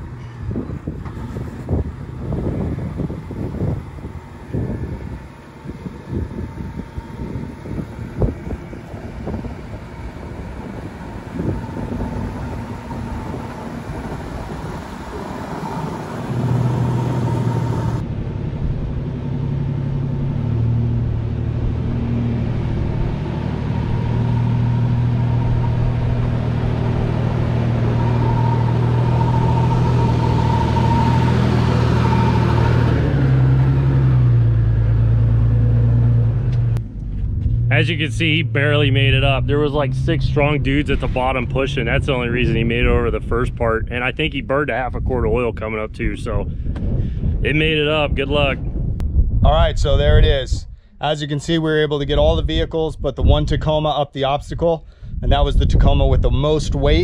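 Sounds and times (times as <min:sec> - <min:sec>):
truck engine labouring: 0:00.0 - 0:49.0
wind buffeting microphone: 0:00.0 - 0:57.0.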